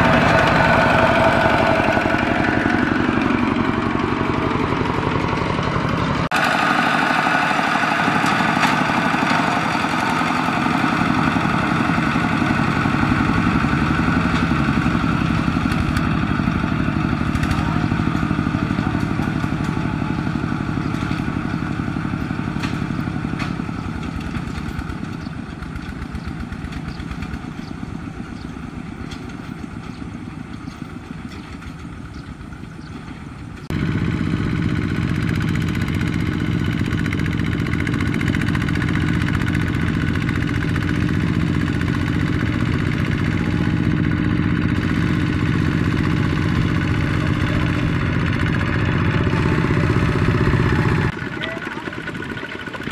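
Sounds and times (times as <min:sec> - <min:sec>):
diesel engines chugging: 0:00.0 - 0:52.9.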